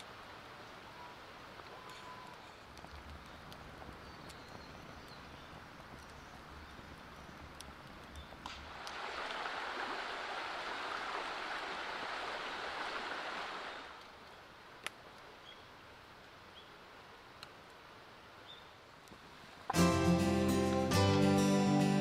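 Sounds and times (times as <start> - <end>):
wind gusting through trees: 0.0 - 20.9.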